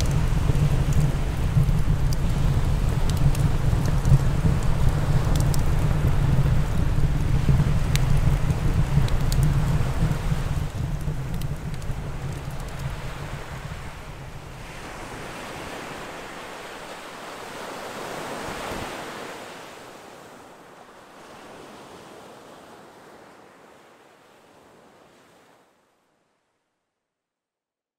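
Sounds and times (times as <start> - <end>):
sea waves washing on shore: 0.0 - 25.7.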